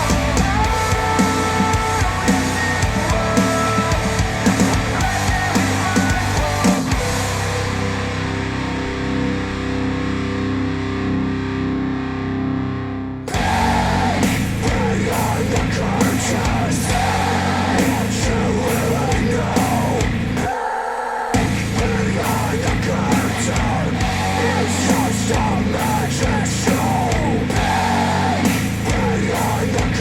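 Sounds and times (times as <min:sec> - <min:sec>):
heavy rock music over speakers: 0:00.0 - 0:20.6, 0:21.3 - 0:30.0.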